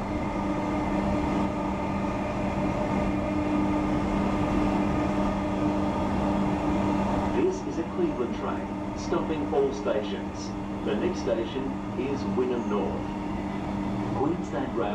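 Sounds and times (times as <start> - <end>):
constant low hum: 0.0 - 14.9
train wheels rumbling on track: 0.0 - 14.9.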